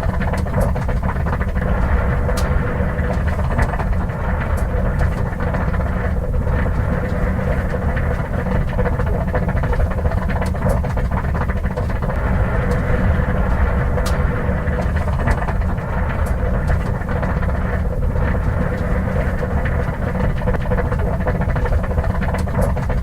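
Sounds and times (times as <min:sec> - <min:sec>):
car engine idling: 0:00.0 - 0:23.0
radiator water boiling: 0:00.0 - 0:23.0.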